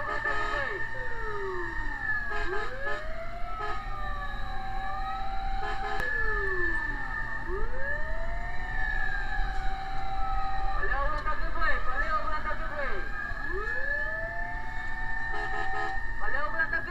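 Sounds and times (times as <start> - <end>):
fire truck sirens wailing: 0.0 - 16.9.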